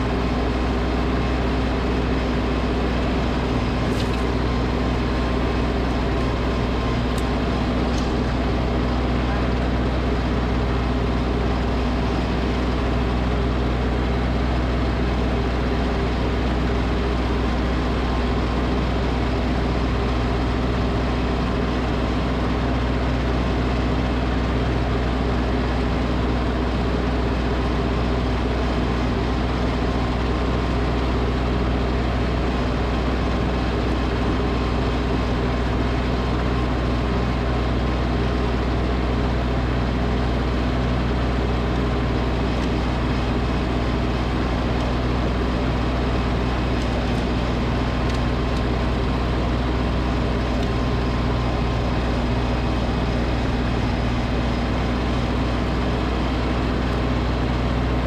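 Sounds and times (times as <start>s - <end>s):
tractor engine running steadily: 0.0s - 58.0s.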